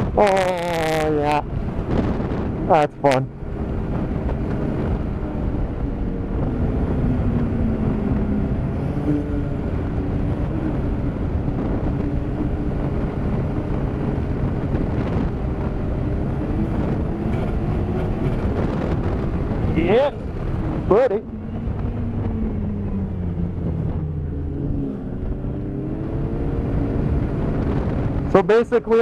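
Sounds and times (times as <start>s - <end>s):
snowmobile engine running: 0.0s - 29.0s
track and wind noise: 0.0s - 29.0s.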